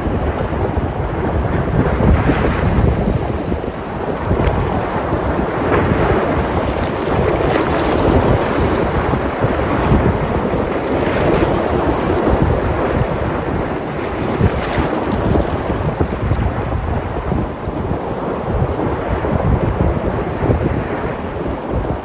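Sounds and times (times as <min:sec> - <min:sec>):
sea surf breaking: 0:00.0 - 0:22.0
wind on microphone: 0:00.0 - 0:22.0.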